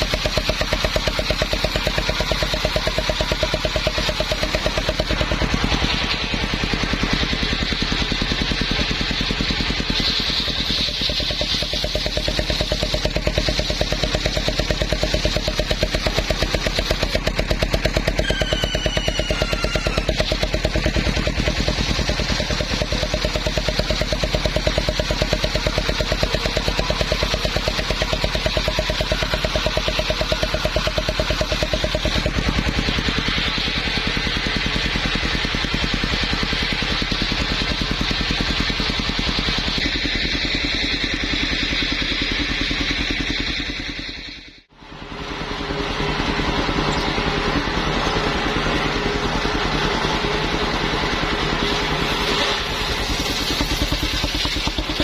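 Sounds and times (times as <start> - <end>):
saw engine running: 0.0 - 55.0.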